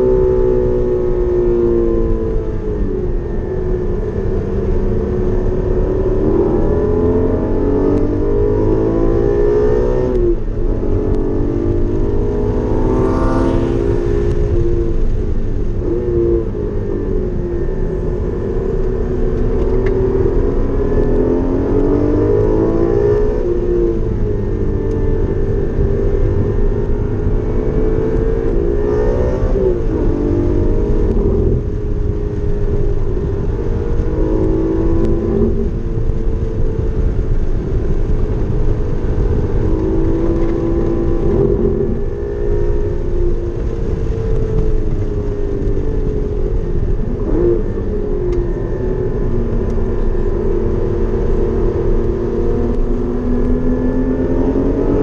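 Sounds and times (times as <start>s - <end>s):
road and wind rumble: 0.0s - 55.0s
sports car engine accelerating: 0.0s - 55.0s.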